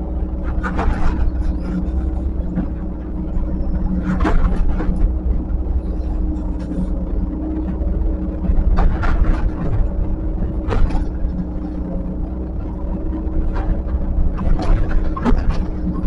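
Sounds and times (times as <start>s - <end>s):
diesel engine of earthmover: 0.0s - 16.0s
loud machine noises: 0.0s - 16.0s.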